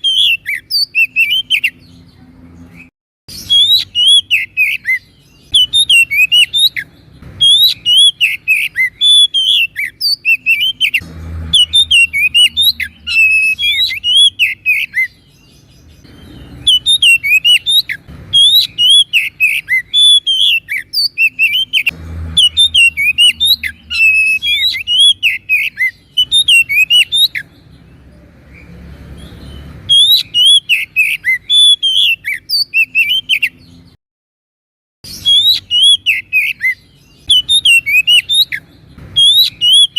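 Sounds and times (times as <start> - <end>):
bird singing rapid chirps and whistles: 0.0 - 34.0, 35.0 - 39.9.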